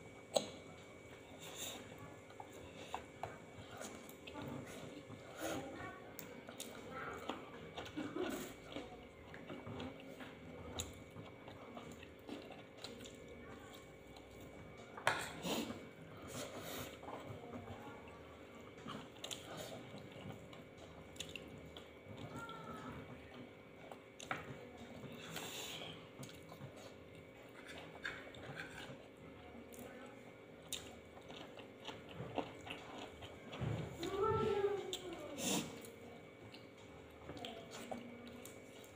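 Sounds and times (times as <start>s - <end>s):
people chewing and biting: 0.1s - 38.9s.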